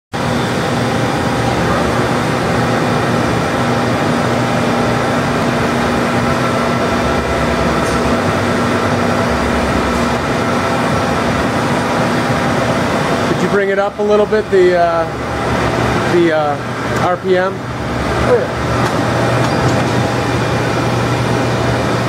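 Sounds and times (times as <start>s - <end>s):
lathe running: 0.2s - 22.0s.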